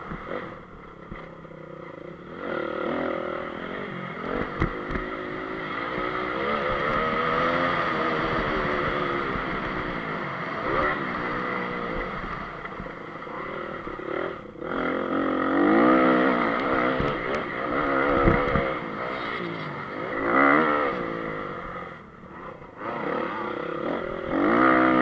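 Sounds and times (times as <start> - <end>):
motocross engine revving: 1.2 - 25.0.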